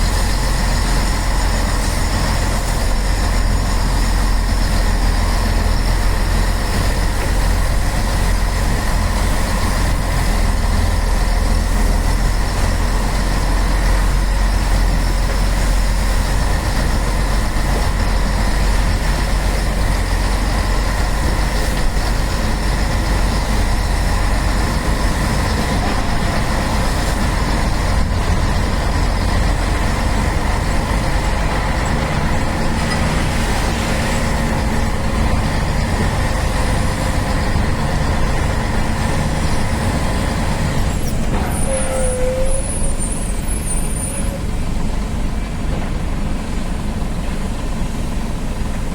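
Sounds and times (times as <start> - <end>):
truck diesel engine rumbling: 0.0 - 48.9.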